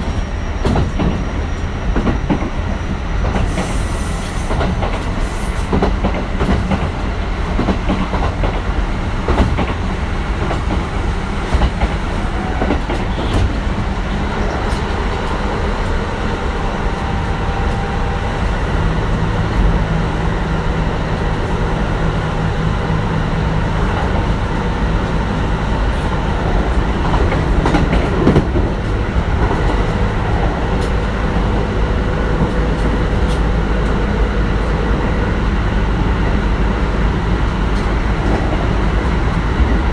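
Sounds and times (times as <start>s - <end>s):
rail-joint clicks: 0.0s - 39.9s
train wheels rumbling on rail: 0.0s - 39.9s.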